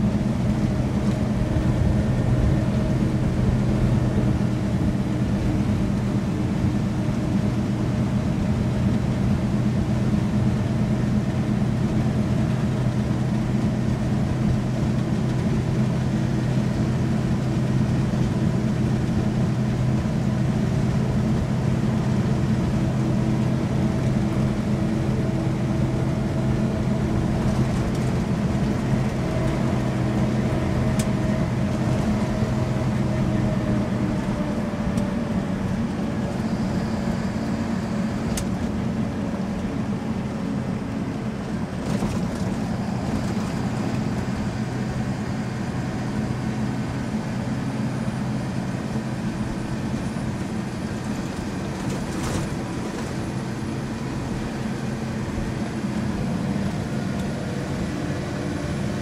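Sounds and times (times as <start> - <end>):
road noise: 0.0 - 59.0
truck engine running: 0.0 - 59.0.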